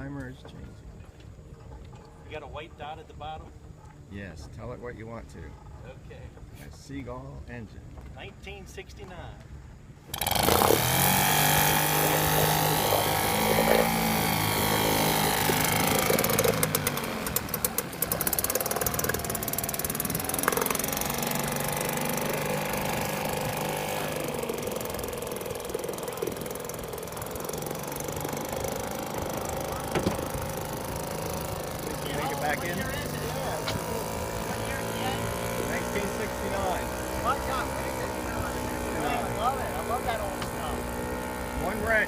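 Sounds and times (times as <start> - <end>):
outboard motor running: 0.0 - 7.5, 9.6 - 42.0.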